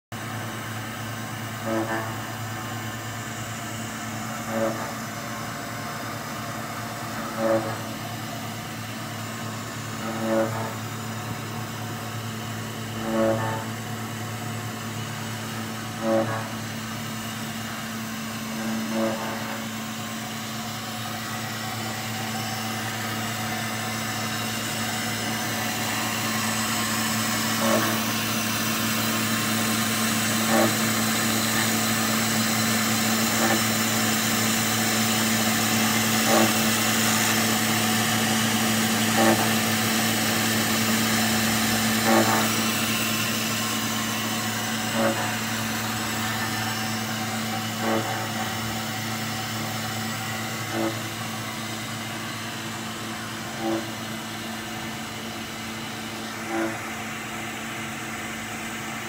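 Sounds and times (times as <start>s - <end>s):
machine motor hum and hiss: 0.2s - 59.0s.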